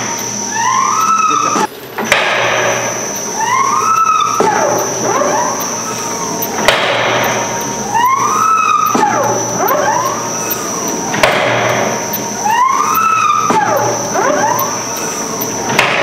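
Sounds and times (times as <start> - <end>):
press machine whine: 0.0 - 16.0.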